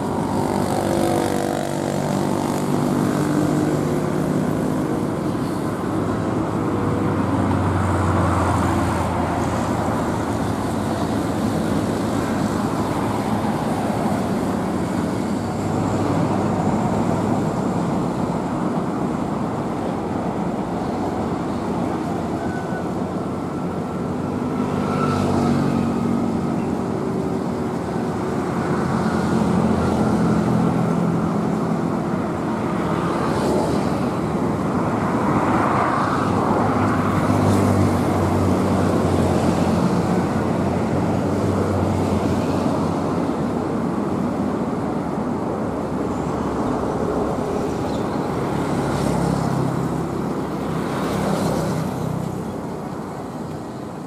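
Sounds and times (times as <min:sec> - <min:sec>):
low hum of heavy engines: 0:00.0 - 0:54.0
road traffic noise: 0:00.0 - 0:54.0.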